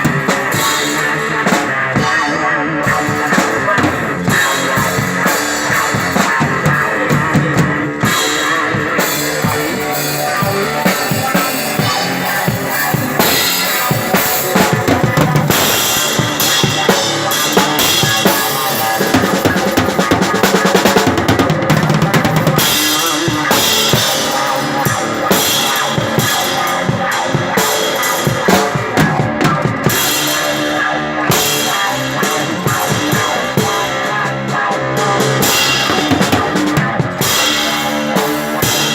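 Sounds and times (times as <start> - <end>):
drum kit played hard: 0.0 - 38.9
guitar: 0.0 - 38.9
rock band playing: 0.0 - 38.9.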